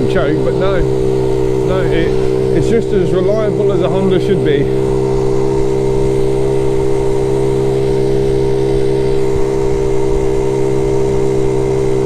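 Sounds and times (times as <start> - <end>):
small motorbike engine running: 0.0 - 12.0.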